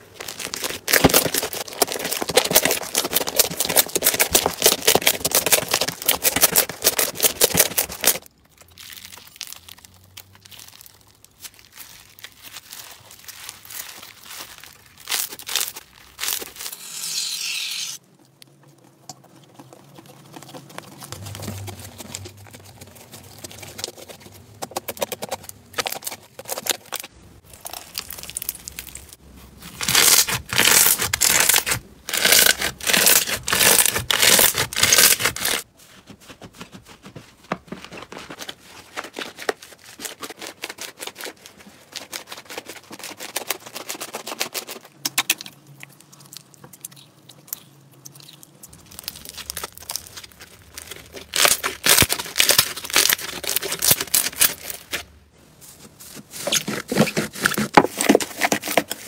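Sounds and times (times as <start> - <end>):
slime squishing and crackling: 0.0 - 16.8, 18.2 - 35.7, 37.7 - 55.2, 56.0 - 59.0.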